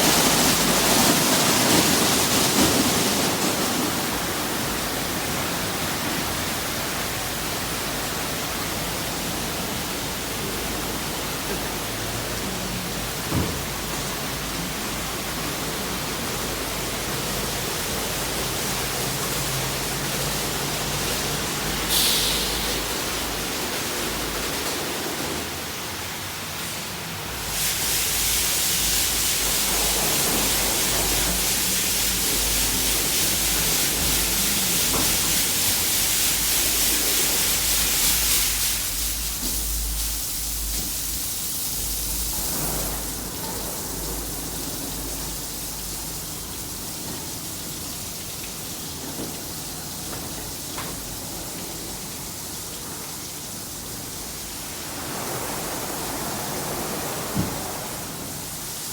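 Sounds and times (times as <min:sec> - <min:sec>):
car wash spraying water: 0:00.0 - 0:58.9.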